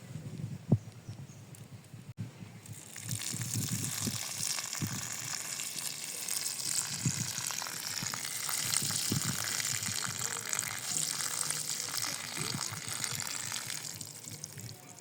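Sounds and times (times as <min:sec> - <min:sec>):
food sizzling in hot oil: 0:02.7 - 0:14.7.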